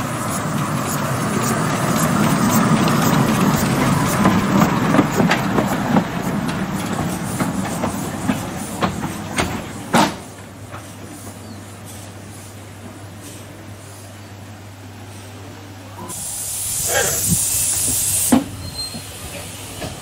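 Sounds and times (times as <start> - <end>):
wheels clicking and clanking on rails: 0.0 - 14.2, 16.1 - 20.0
steam locomotive running past: 0.0 - 20.0.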